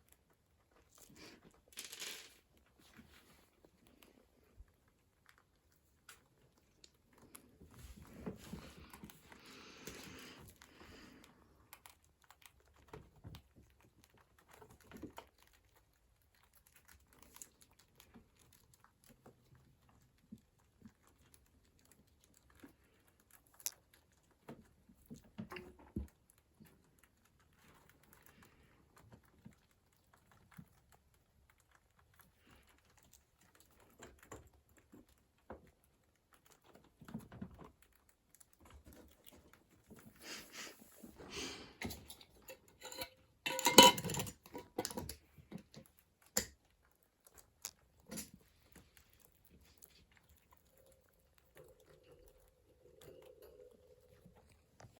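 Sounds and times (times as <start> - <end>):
crinkling and rustling: 0.0 - 55.0.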